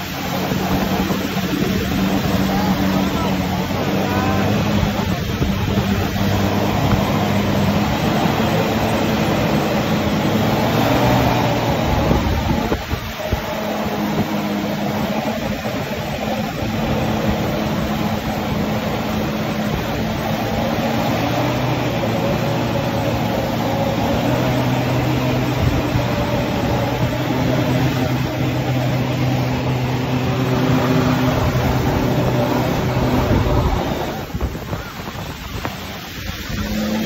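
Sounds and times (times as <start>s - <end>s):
jet ski engine running: 0.0s - 37.0s
rush of spray: 0.0s - 37.0s.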